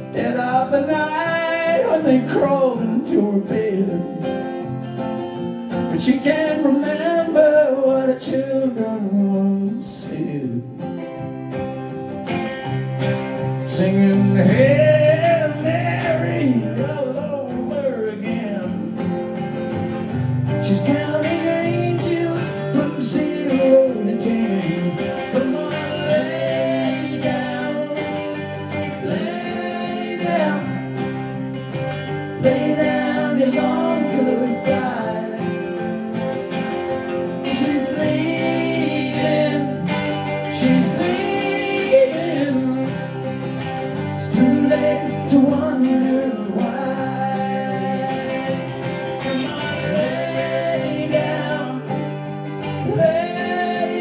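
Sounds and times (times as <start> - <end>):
man singing: 0.0 - 4.7, 5.7 - 11.0, 13.4 - 19.2, 20.0 - 54.0
electric lead guitar: 0.0 - 54.0
strummed acoustic guitar: 0.0 - 54.0.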